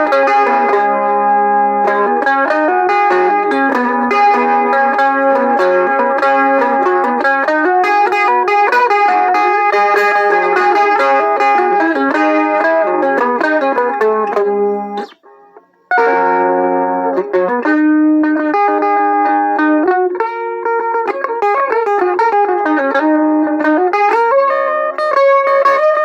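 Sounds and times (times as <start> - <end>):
electric mandolin melody: 0.0 - 26.0.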